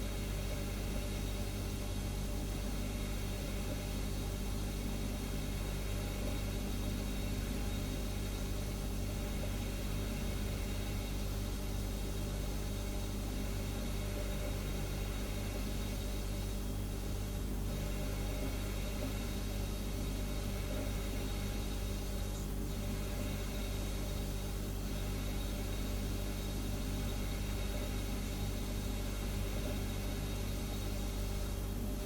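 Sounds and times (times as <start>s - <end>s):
refrigerator humming: 0.0s - 32.0s.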